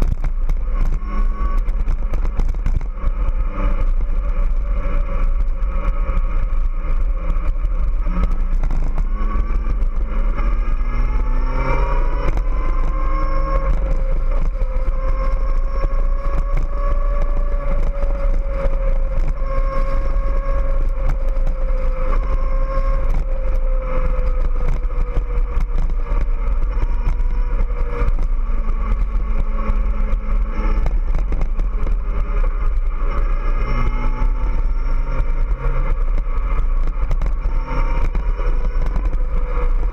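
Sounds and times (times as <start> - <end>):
constant low rumble: 0.0 - 39.9
motorcycle engine accelerating: 0.0 - 39.9.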